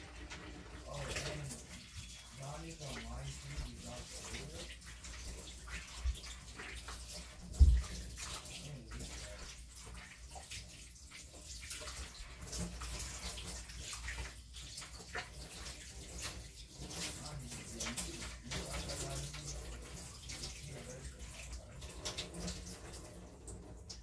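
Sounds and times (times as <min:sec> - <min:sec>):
hands washing and splashing: 0:00.0 - 0:24.0
tap water running into sink: 0:00.0 - 0:24.0.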